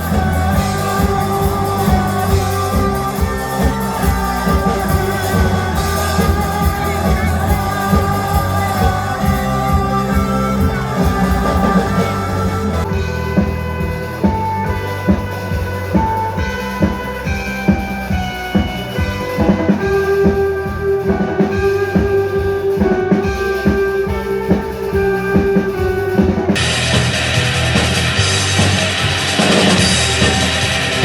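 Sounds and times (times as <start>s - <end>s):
instrumental rock music: 0.0s - 31.0s.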